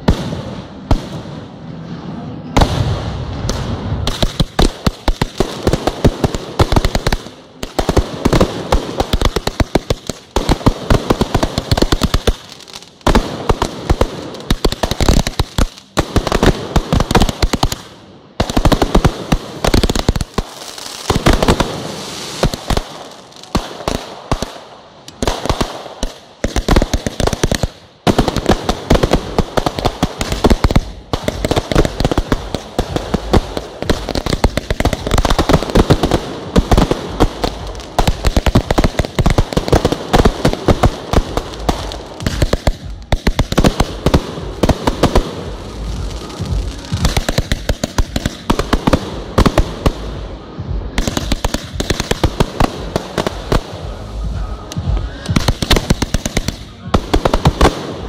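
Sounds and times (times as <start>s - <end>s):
fireworks launching and bursting: 0.0s - 58.0s.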